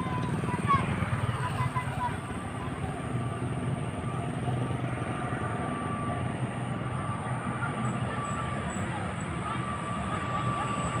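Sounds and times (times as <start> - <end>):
airplane engines droning: 0.0 - 11.0.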